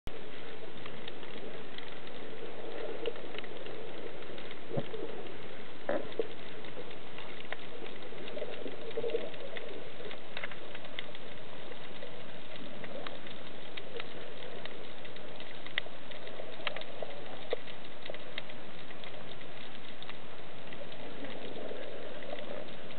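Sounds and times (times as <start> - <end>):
underwater clicks and crackles: 0.1 - 22.9.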